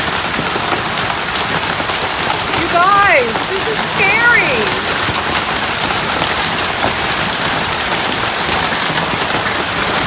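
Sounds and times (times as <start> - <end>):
hail and heavy rain roar: 0.0 - 10.0.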